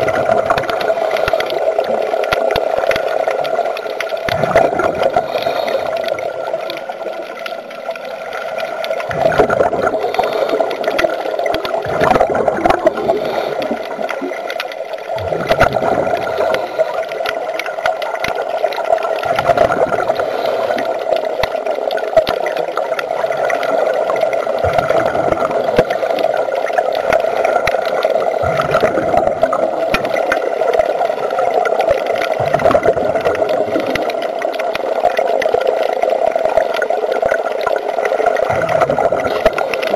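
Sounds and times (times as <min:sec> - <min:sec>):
diver exhaling bubbles underwater: 0:00.0 - 0:07.0, 0:09.0 - 0:17.4, 0:18.8 - 0:21.6, 0:23.1 - 0:39.9.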